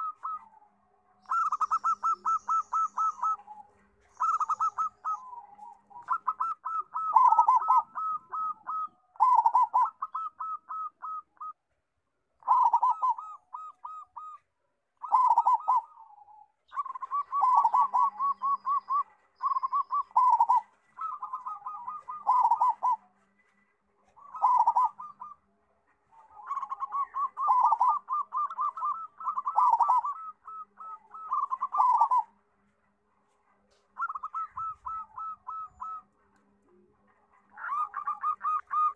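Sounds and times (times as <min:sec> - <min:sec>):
dove cooing song: 0:00.0 - 0:11.7, 0:12.3 - 0:38.9.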